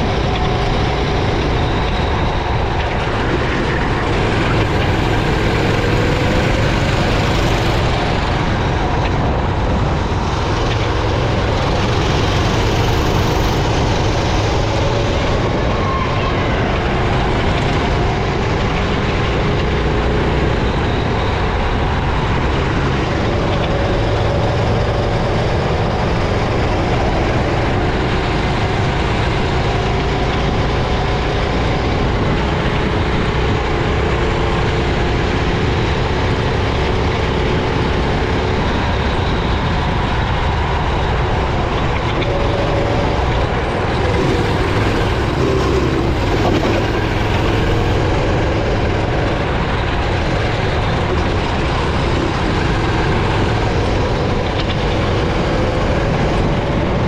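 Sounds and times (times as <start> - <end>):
kart engine droning: 0.0 - 57.0.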